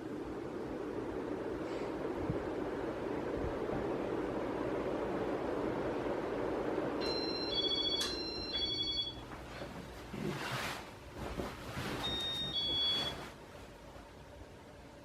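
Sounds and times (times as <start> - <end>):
ceiling fan air rush: 0.0 - 15.0.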